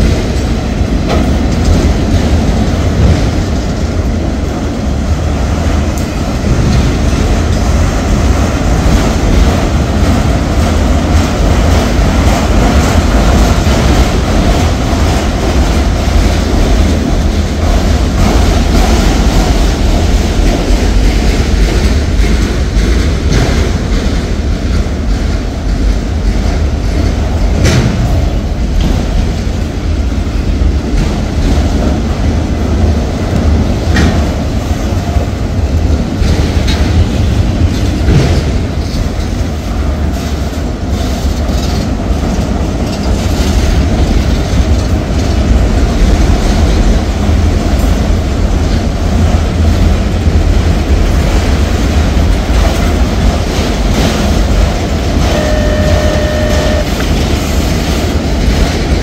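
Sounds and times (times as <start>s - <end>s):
train wheels rumbling on rail: 0.0s - 59.0s
wheels clacking over rail joints: 0.0s - 59.0s.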